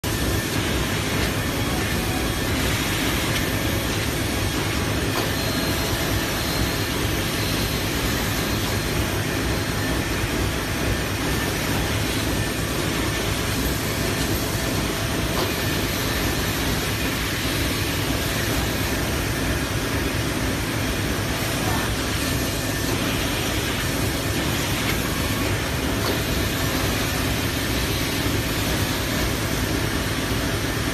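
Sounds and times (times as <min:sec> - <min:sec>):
machine running steadily: 0:00.0 - 0:30.9.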